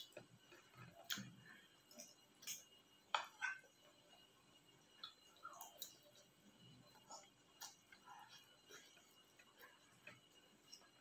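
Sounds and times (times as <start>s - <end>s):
person chewing food: 0.0s - 3.7s, 5.0s - 11.0s.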